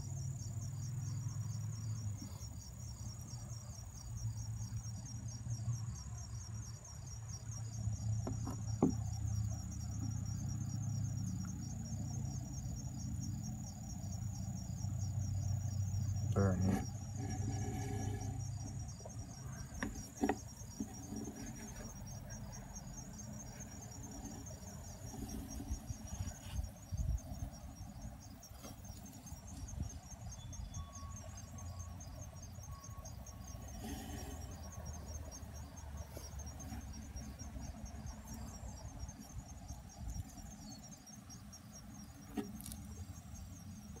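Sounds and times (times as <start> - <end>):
crickets chirping: 0.0 - 44.0.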